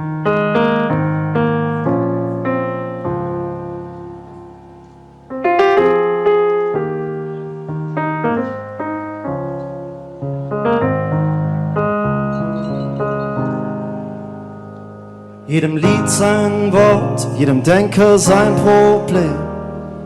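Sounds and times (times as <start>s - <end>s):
solo piano slow chords: 0.0s - 20.0s.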